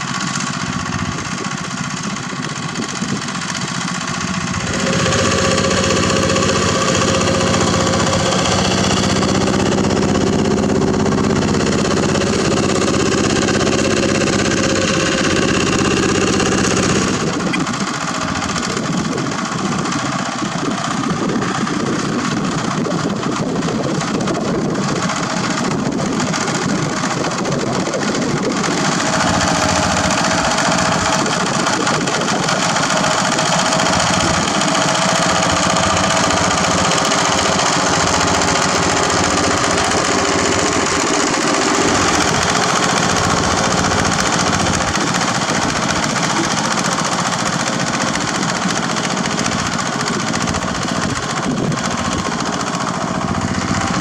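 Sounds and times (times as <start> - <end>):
diesel engine running under load: 0.0 - 54.0
rotary tiller churning soil: 0.0 - 54.0.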